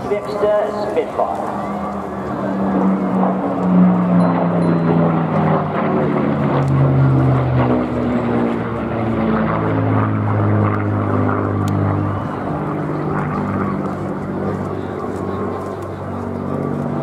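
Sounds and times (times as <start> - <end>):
propeller plane engine flypast: 0.0 - 17.0.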